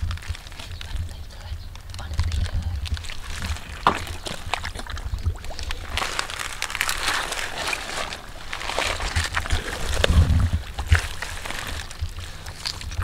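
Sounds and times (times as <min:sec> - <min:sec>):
low rumble: 0:00.0 - 0:13.0
hands squelching in wet mud: 0:02.0 - 0:13.0.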